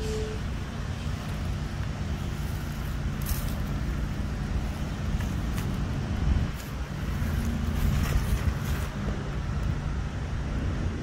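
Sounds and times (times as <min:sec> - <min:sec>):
low rumble of motor traffic: 0:00.0 - 0:11.0.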